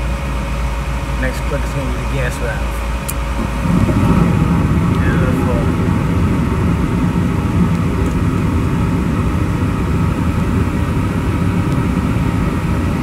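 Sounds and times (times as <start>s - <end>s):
gas furnace burners rumbling: 0.0s - 13.0s.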